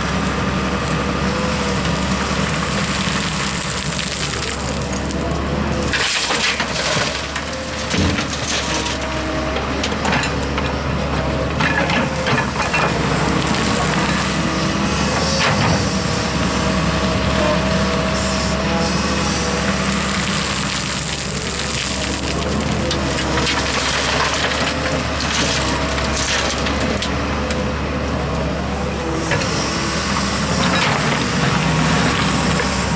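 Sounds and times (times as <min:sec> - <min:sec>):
excavator engine running under load: 0:00.0 - 0:32.9
soil and rock crunching: 0:00.0 - 0:32.9.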